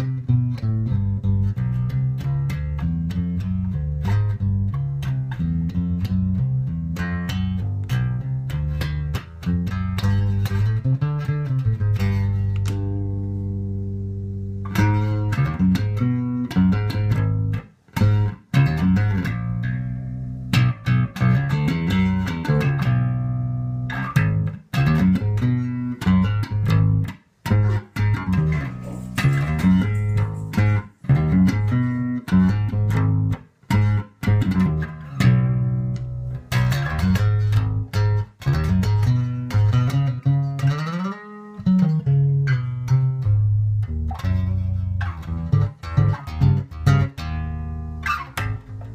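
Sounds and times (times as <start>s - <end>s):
electric bass plucked notes: 0.0s - 48.9s.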